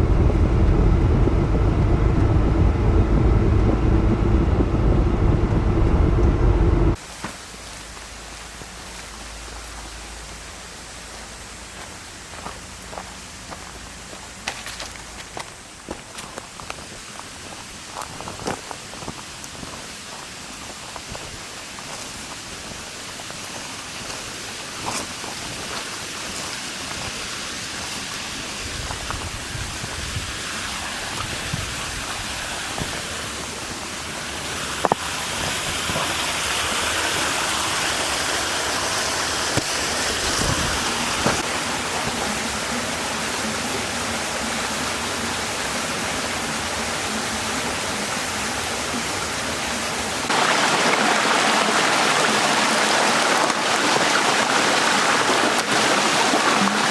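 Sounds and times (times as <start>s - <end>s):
small stream running: 6.9s - 56.9s.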